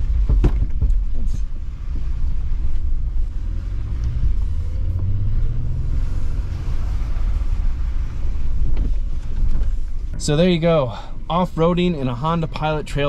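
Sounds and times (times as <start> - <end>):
car engine and tyres in cabin: 0.0 - 13.0.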